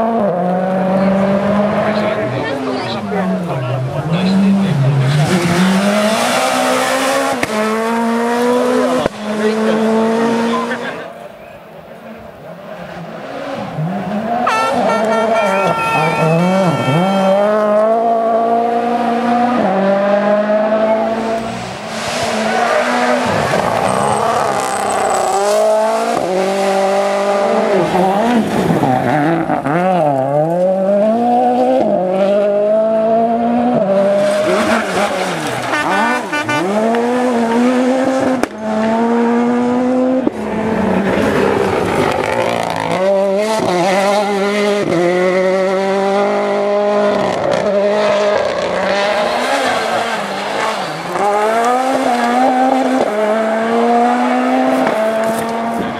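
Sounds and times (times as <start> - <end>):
rally car engines revving: 0.0 - 55.9.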